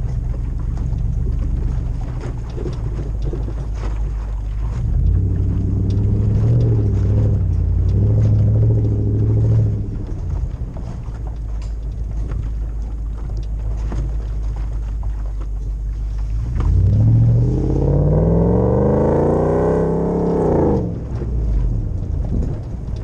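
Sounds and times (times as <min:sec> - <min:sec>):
engine rumbling and revving: 0:00.0 - 0:23.0.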